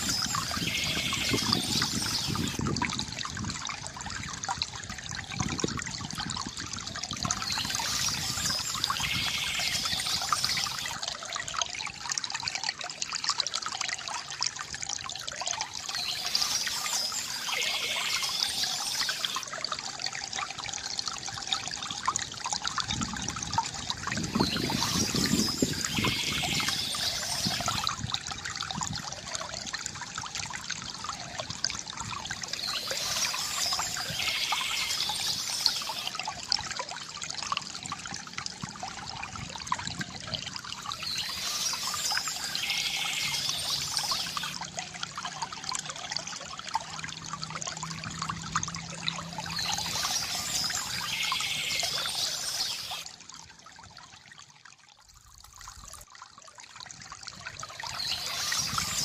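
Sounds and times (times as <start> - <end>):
water trickling from bamboo fountain: 0.0 - 59.0.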